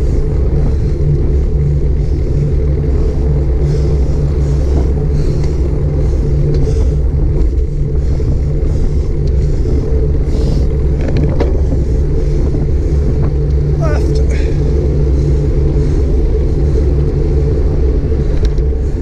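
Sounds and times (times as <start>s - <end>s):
wind and road rumble: 0.0s - 19.0s.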